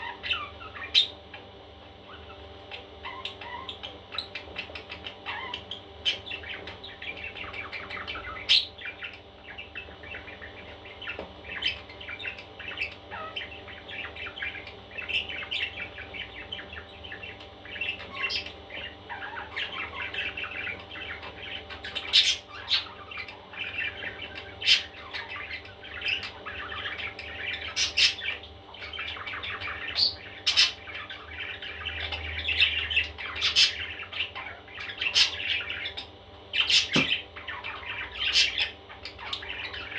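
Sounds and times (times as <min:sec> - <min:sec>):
baby parrots chirping: 0:00.0 - 0:01.4, 0:02.0 - 0:39.9
parrot squawks: 0:02.1 - 0:39.9.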